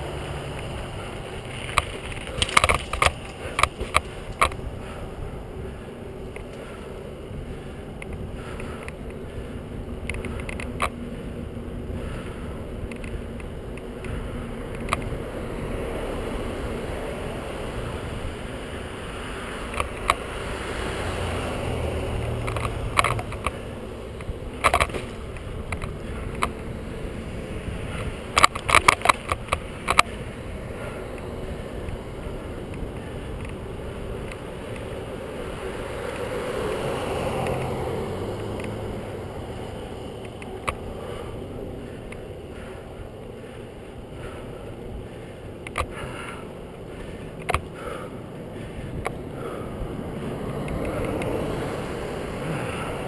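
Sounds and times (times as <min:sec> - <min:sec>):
bicycle clicks and rattles: 0:00.0 - 0:20.3, 0:22.0 - 0:53.0
cars passing: 0:00.0 - 0:53.0
wind and tyre noise: 0:00.0 - 0:53.0.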